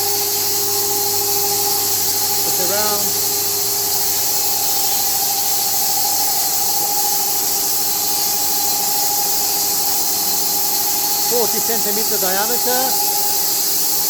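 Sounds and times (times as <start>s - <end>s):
band sawmill running: 0.0s - 14.0s.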